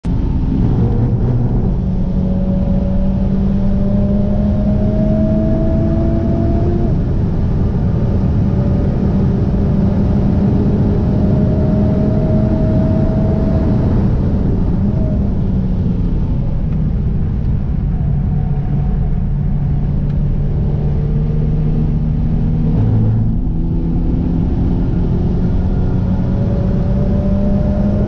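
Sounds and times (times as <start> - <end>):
car engine under full throttle: 0.0 - 28.0
road rumble: 0.0 - 28.0.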